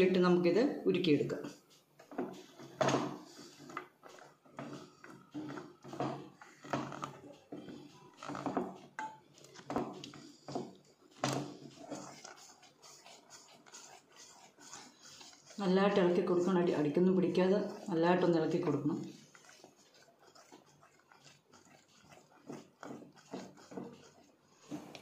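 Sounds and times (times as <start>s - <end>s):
spatula scraping a pan: 0.0s - 25.0s.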